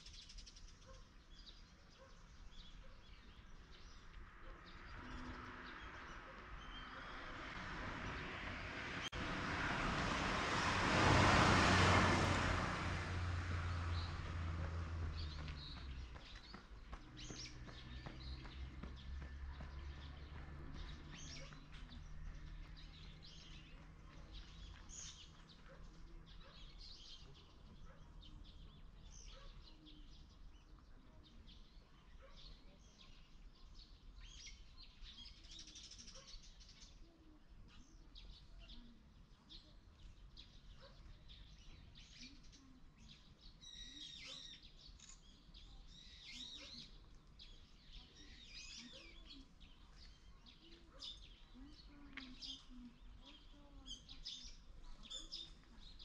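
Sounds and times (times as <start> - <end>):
small birds chirping: 0.0 - 9.5, 12.8 - 56.0.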